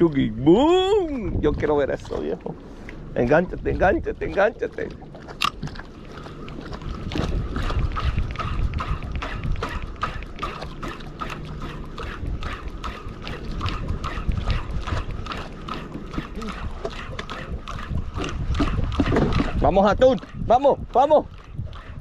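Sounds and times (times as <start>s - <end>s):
boat motor hum and rumble: 0.0s - 22.0s.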